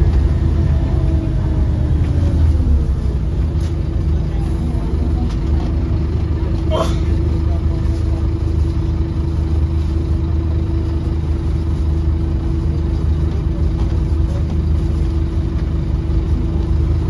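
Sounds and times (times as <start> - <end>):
bus diesel engine droning: 0.0 - 17.0.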